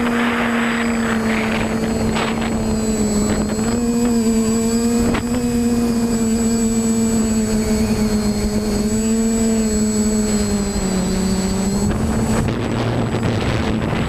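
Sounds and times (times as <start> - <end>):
drone motors humming: 0.0 - 14.0.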